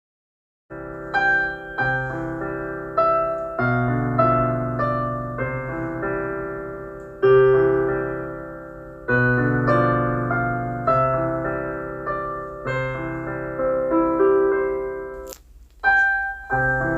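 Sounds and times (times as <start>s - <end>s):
slow piano music: 0.7s - 16.9s.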